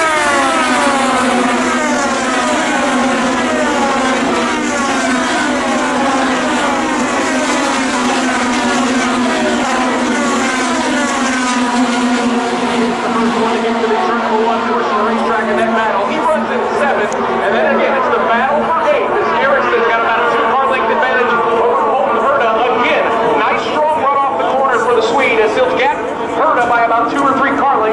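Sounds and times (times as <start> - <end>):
race cars passing at high revs: 0.0 - 27.9.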